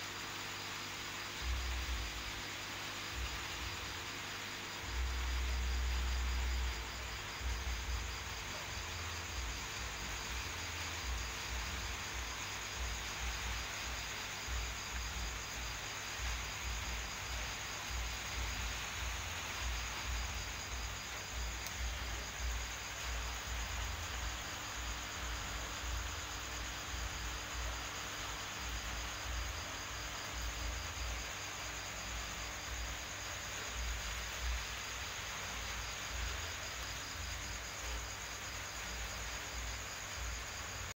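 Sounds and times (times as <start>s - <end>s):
high insect trill: 0.0s - 40.9s
steady hiss: 0.0s - 40.9s.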